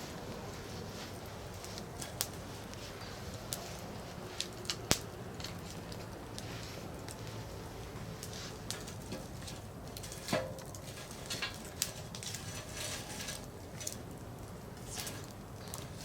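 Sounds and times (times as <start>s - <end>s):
soft fire hiss: 0.0s - 16.0s
campfire crackling and popping: 0.1s - 16.0s.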